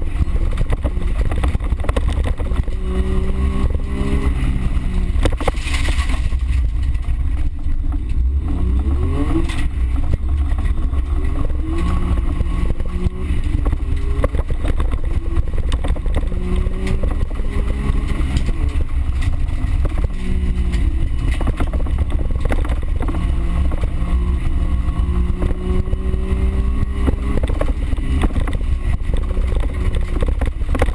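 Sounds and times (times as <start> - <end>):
car engine revving: 0.0 - 30.9
knocks and rattles: 0.0 - 30.9.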